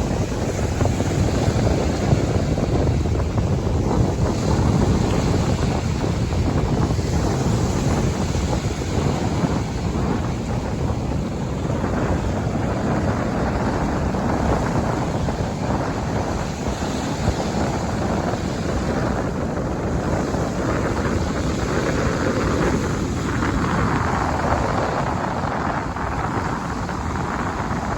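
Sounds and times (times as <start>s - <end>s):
waves washing on beach: 0.0s - 27.9s
wind buffeting microphone: 0.0s - 27.9s.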